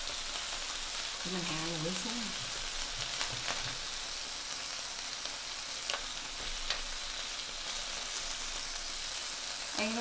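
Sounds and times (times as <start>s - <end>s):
meat sizzling on a grill pan: 0.0s - 10.0s.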